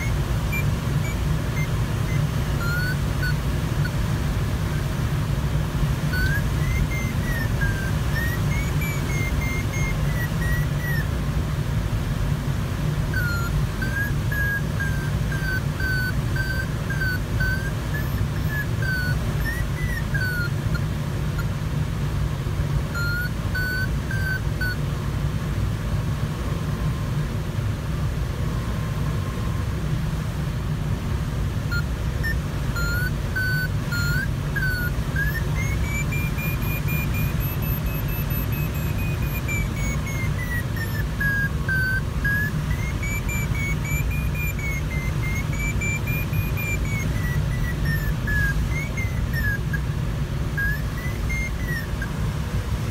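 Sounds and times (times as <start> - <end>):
variometer beeping: 0.0 - 25.0, 31.2 - 52.9.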